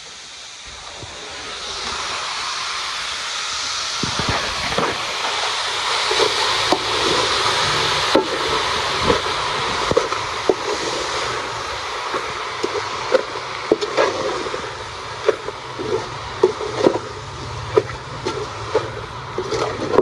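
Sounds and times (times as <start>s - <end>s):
cabbage sizzling in a pan: 0.0s - 17.7s.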